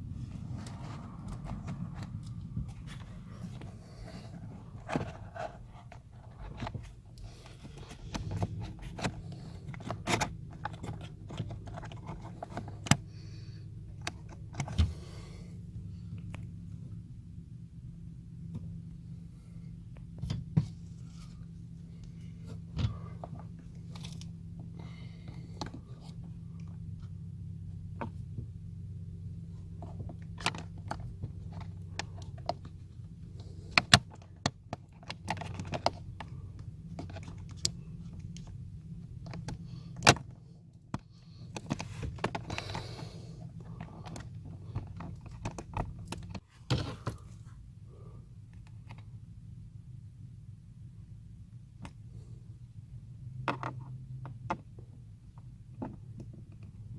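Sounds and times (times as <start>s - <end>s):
steady low hum: 0.0s - 53.4s.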